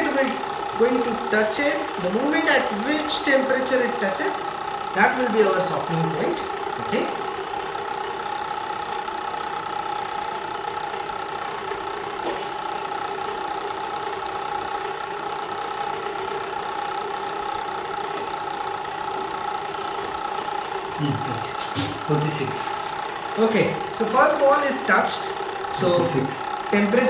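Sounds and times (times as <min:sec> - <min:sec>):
electric motor hum: 0:00.0 - 0:27.0.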